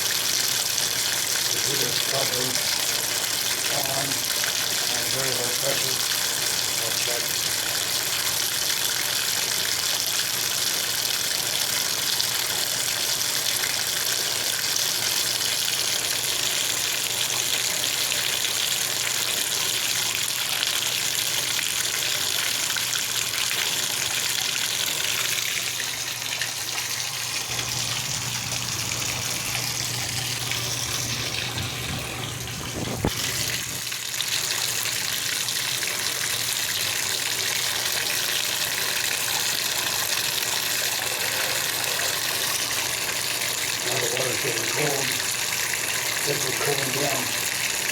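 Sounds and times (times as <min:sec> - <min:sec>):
tap water running: 0:00.0 - 0:47.9.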